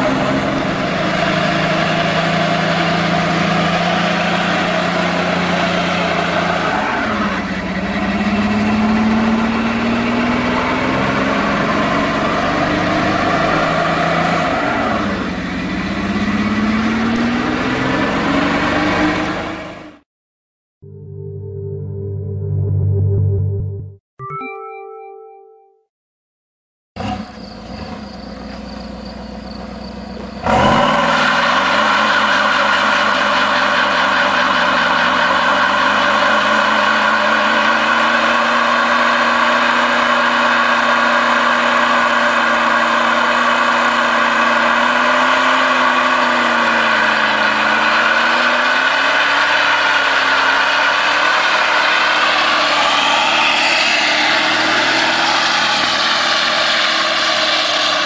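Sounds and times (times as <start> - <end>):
truck engine revving high: 0.0 - 20.0, 27.0 - 58.0
tyres spinning on asphalt: 0.0 - 20.0, 27.0 - 58.0.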